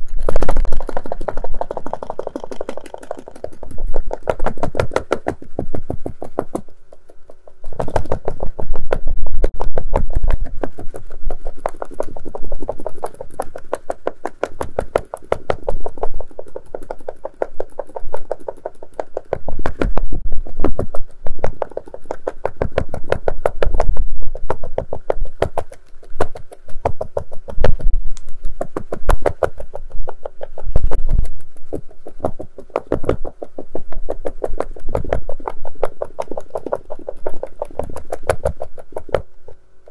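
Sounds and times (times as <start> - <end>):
rapid tapping on hard case: 0.2 - 39.4.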